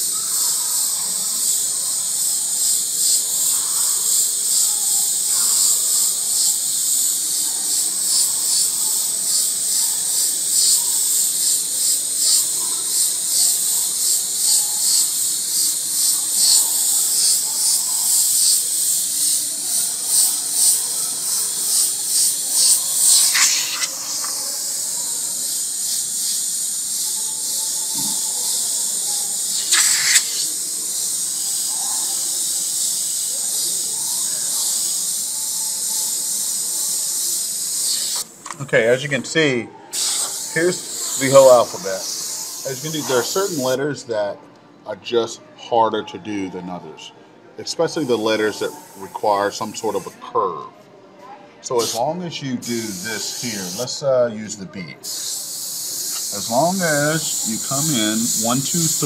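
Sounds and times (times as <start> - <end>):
airbrush spraying in bursts: 0.0 - 38.4, 39.9 - 43.8, 48.0 - 50.1, 51.7 - 54.0, 55.0 - 59.0
steady hiss of air: 0.0 - 39.2, 39.9 - 43.8, 47.6 - 50.1, 51.6 - 54.1, 55.0 - 59.0.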